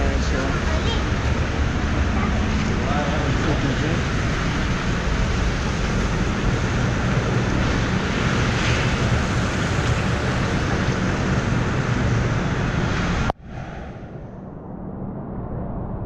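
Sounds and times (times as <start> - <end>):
rain: 0.0 - 13.3
heavy low rumble: 0.0 - 16.0
storm wind: 0.0 - 16.0.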